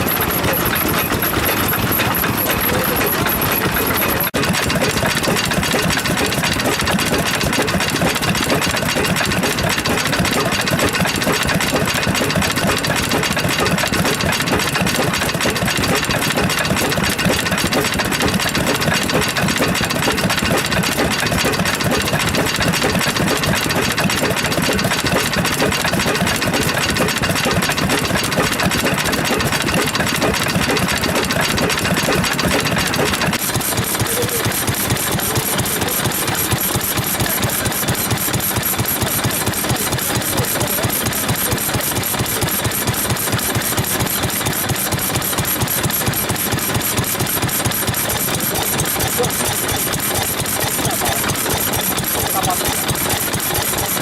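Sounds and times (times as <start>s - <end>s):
stationary engines running: 0.0s - 54.0s.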